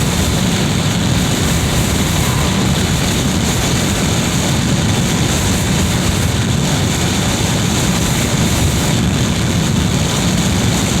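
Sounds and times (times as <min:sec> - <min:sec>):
wind blowing through window: 0:00.0 - 0:11.0.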